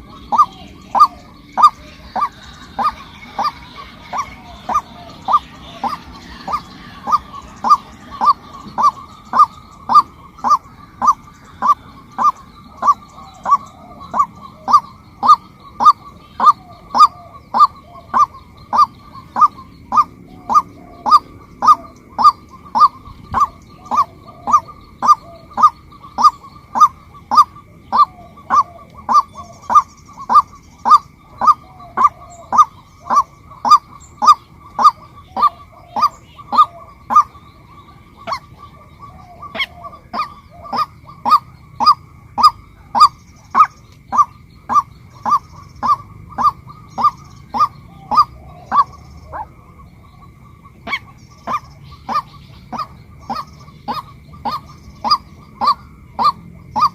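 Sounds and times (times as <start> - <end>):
waterhen calling kwak: 0.0 - 56.9.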